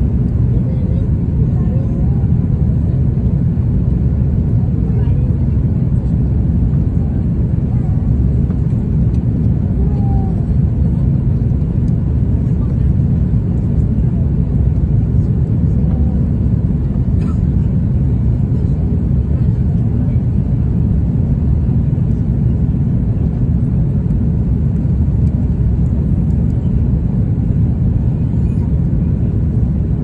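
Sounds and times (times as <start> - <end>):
airliner cabin engine roar: 0.0 - 30.0.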